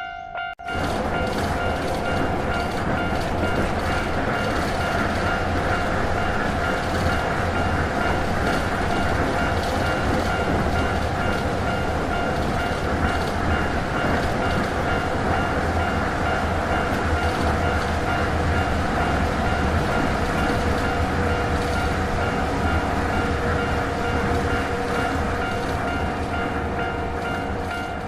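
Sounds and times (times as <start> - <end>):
train rumbling on rails: 0.1 - 28.0.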